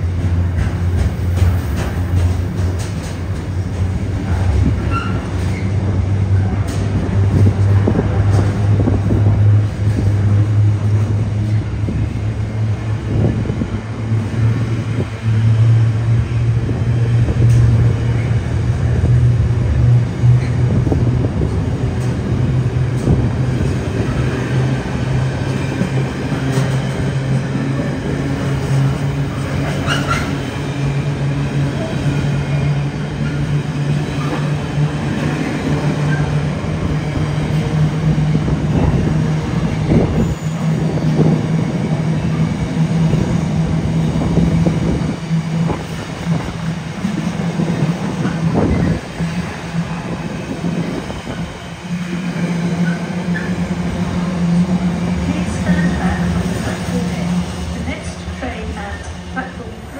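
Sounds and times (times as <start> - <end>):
train low drone: 0.0 - 59.9.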